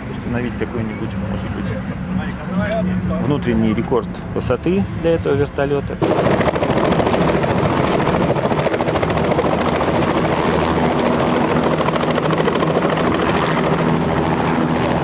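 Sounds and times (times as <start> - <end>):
helicopter flying past: 0.0 - 15.0.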